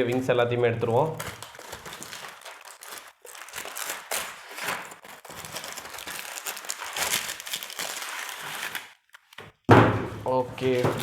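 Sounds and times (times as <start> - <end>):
packaging crinkling and rustling: 0.8 - 11.0.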